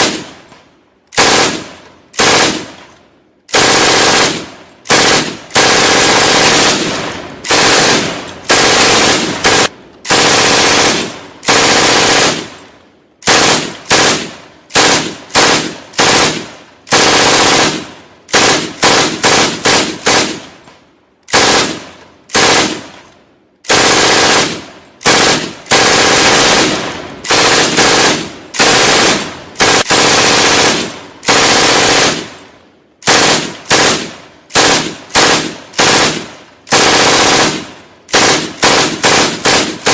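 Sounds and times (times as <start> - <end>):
automatic gunfire bursts: 1.2 - 2.9, 3.5 - 12.6, 13.2 - 20.5, 21.3 - 23.0, 23.7 - 39.9.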